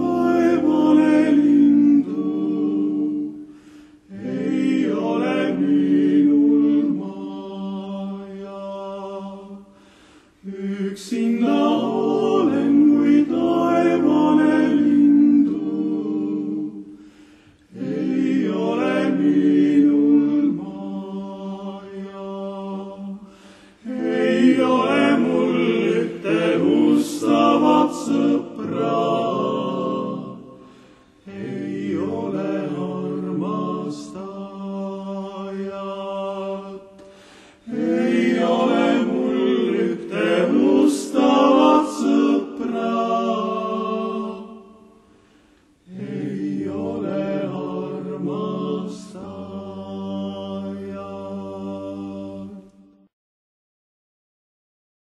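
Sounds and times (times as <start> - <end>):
men singing in close harmony: 0.0 - 3.4, 4.1 - 9.7, 10.4 - 16.9, 17.8 - 30.6, 31.2 - 44.9, 45.9 - 52.7.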